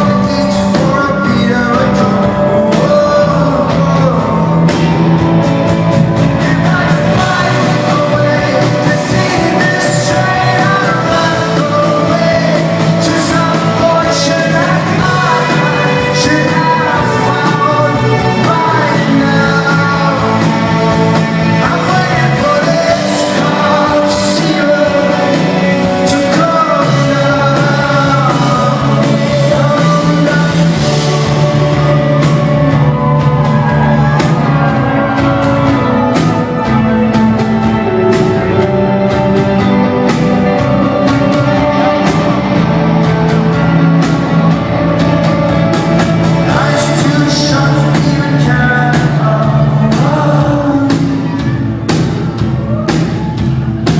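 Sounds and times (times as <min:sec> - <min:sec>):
live rock band: 0:00.0 - 0:53.9
man singing lead vocal: 0:00.0 - 0:53.9.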